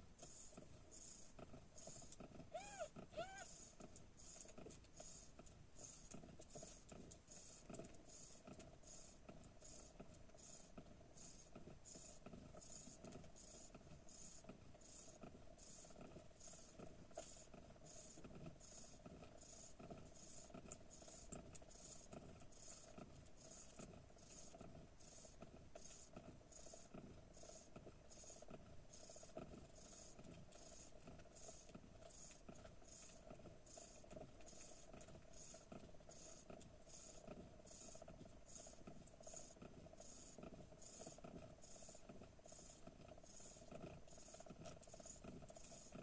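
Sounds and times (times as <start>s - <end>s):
faint steady hum: 0.0s - 46.0s
soft rhythmic hissing: 0.0s - 46.0s.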